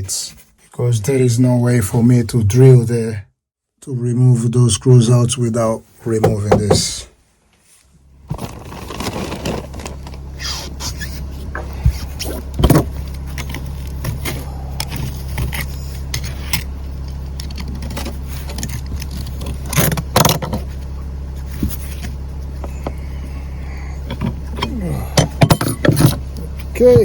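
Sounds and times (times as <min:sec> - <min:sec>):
steady low hum: 0:00.0 - 0:03.2, 0:03.8 - 0:27.0.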